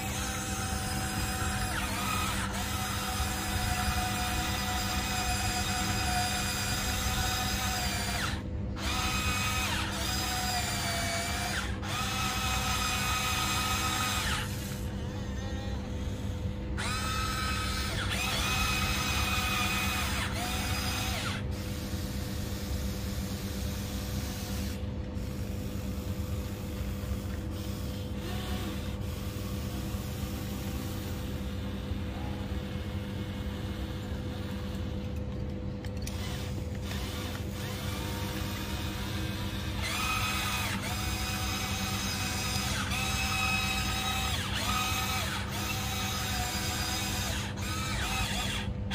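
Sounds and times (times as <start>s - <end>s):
electric gear motors whining: 0.0s - 48.9s
steady low hum: 0.0s - 48.9s.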